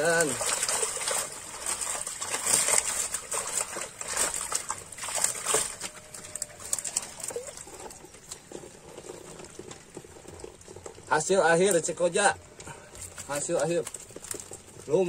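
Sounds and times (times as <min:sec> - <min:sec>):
fish flapping in net: 0:00.0 - 0:11.1, 0:12.7 - 0:15.0
water dripping: 0:00.0 - 0:15.0
water splashing: 0:00.0 - 0:15.0.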